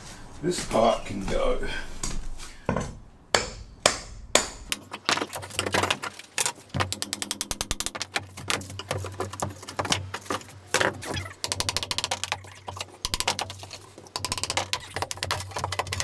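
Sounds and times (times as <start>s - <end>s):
crowbar knocking and prying: 2.7s - 16.0s.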